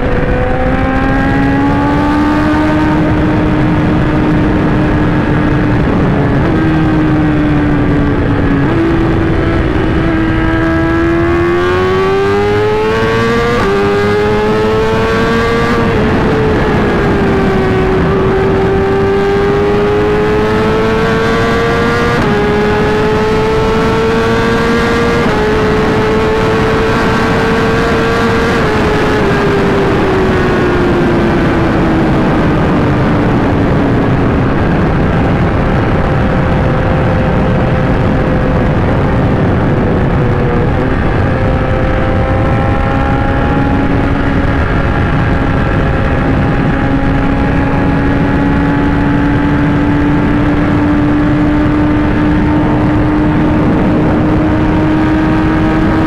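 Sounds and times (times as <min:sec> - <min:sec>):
motorcycle engine at high revs: 0:00.0 - 0:56.0
wind and road rush: 0:00.0 - 0:56.0.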